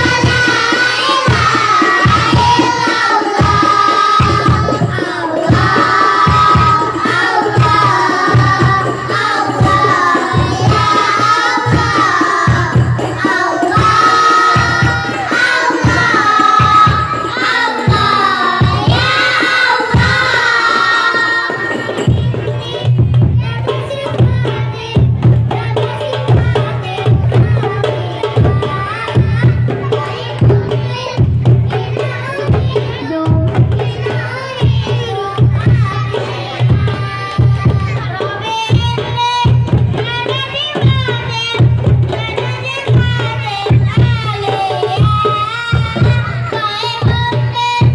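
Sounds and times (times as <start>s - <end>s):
children singing into microphones: 0.0s - 47.9s
frame drums beating: 0.0s - 47.9s.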